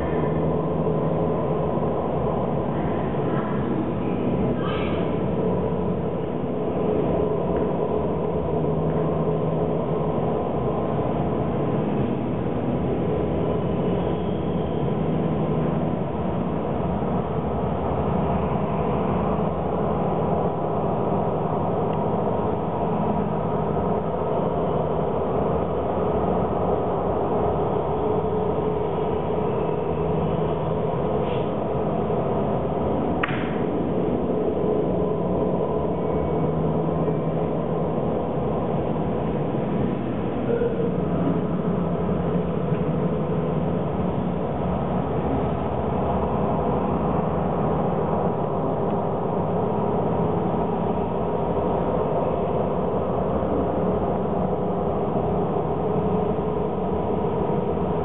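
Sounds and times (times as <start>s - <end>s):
droning hum of low tones: 0.0s - 58.0s
rumbling wash: 0.0s - 58.0s.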